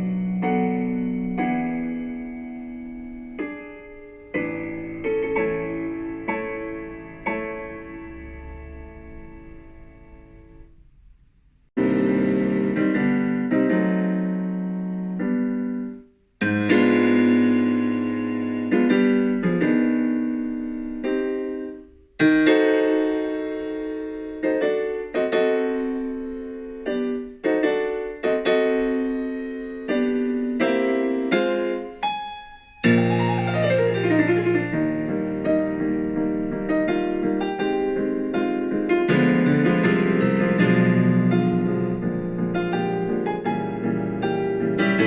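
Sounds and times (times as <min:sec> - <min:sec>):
piano chords ringing: 0:00.0 - 0:45.0.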